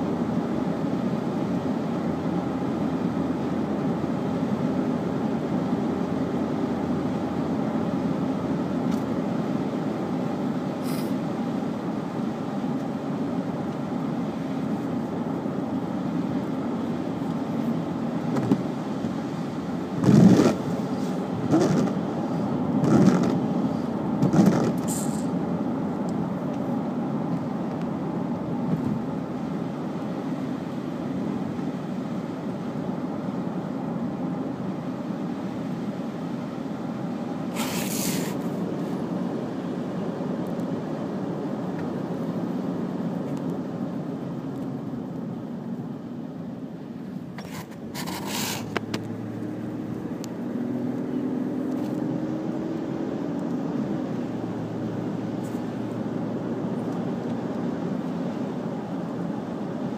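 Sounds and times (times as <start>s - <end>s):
car road and engine drone: 0.0s - 59.9s.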